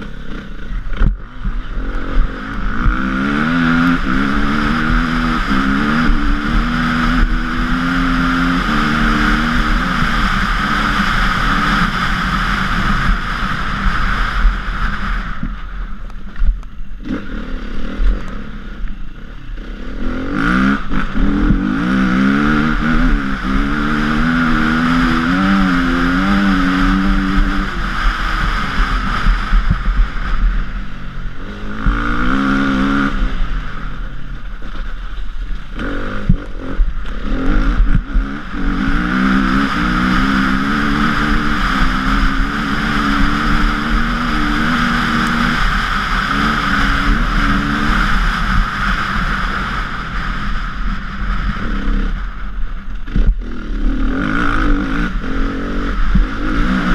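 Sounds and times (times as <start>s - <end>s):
motorbike engine revving: 0.0s - 56.9s.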